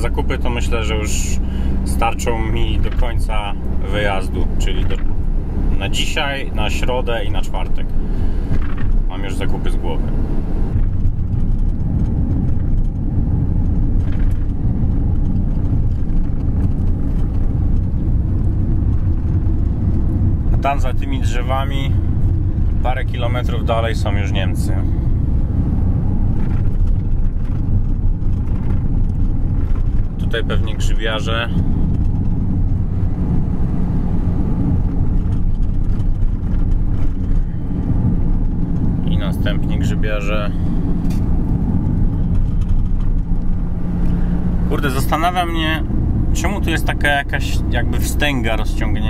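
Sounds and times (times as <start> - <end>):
van engine and tyre drone: 0.0 - 49.0.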